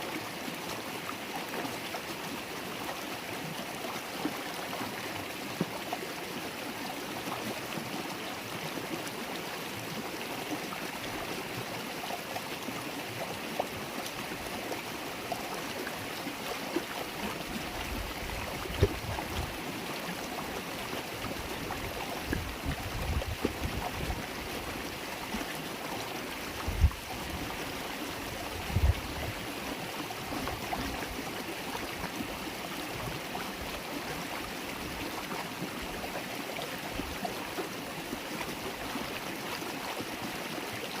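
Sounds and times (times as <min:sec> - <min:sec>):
river water babbling: 0:00.0 - 0:41.0.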